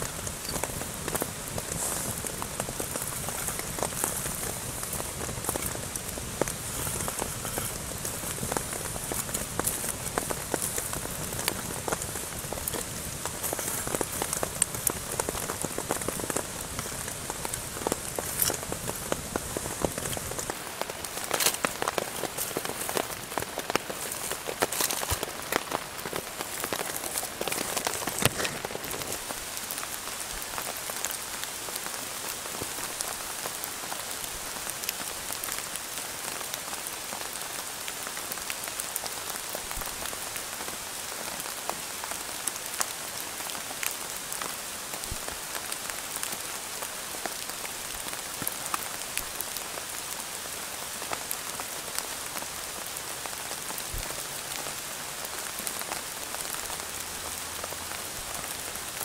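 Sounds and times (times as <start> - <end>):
steady rain in forest: 0.0 - 59.0.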